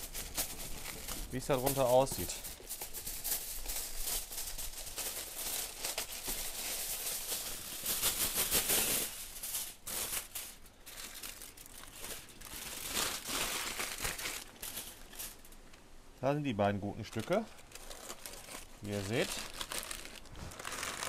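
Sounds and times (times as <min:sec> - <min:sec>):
aluminium foil crinkling: 0:00.0 - 0:15.8, 0:17.0 - 0:21.0.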